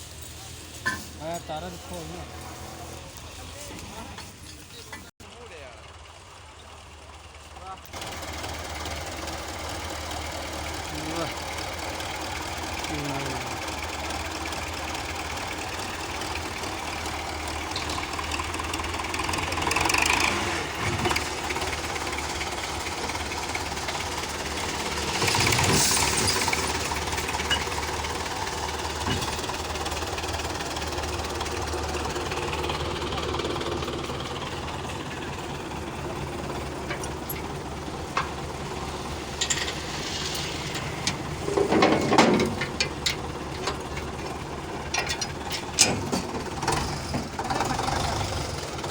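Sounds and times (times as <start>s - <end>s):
tractor diesel engine: 0.0s - 48.9s.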